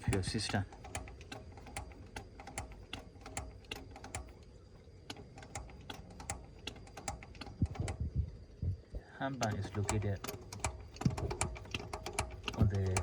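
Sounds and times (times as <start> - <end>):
hand pump rapid clicks: 0.0 - 8.0, 9.3 - 13.0.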